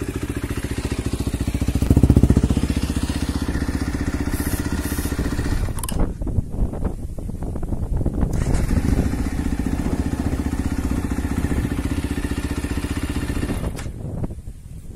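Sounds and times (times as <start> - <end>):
motorcycle engine idling: 0.0 - 6.1, 8.4 - 14.4.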